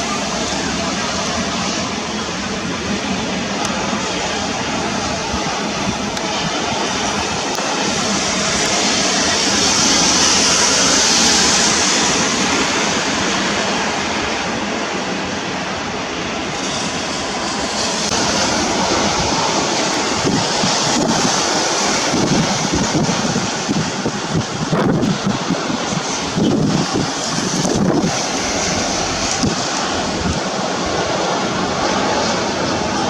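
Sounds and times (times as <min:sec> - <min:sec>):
heavy rain hiss: 0:00.0 - 0:33.0
wind buffeting microphone: 0:00.0 - 0:33.0.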